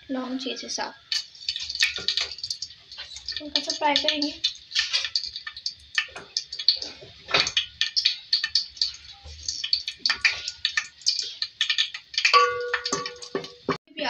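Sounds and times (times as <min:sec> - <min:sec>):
spices crackling in hot oil: 0:00.0 - 0:13.8.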